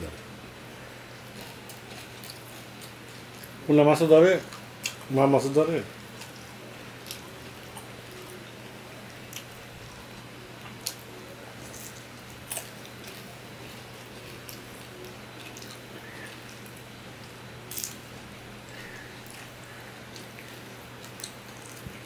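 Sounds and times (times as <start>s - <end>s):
steady low hum: 0.0s - 22.0s
soft wet chewing: 0.8s - 3.6s, 4.3s - 5.1s, 6.0s - 22.0s.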